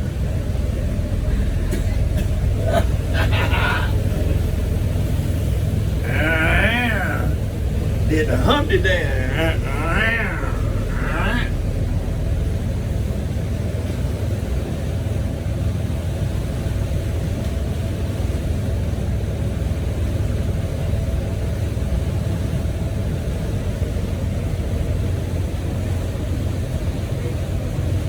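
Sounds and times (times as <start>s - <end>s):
faint steady whine: 0.0s - 26.5s
motorboat engines rumbling: 0.0s - 28.0s.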